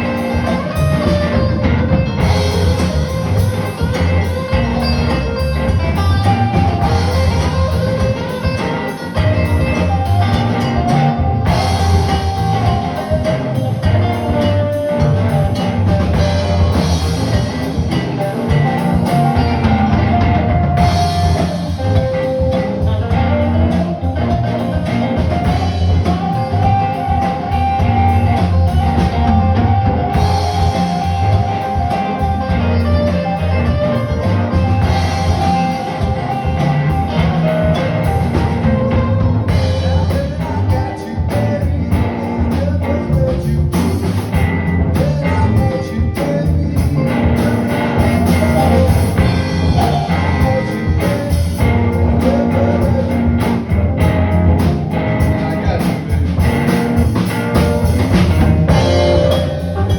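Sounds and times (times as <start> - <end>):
drum kit: 0.0 - 59.9
guitar: 0.0 - 59.9.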